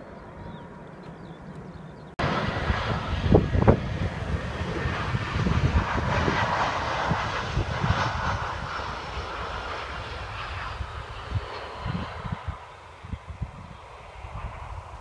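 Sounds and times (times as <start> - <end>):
jet engines rushing: 0.0 - 15.0
wind buffeting microphone: 0.2 - 15.0.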